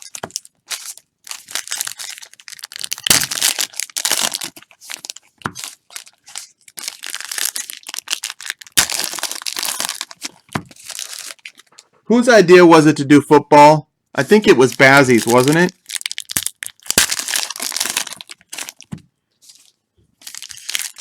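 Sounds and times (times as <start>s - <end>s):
foil wrappers crinkling and tearing: 0.0s - 11.8s, 14.4s - 21.0s.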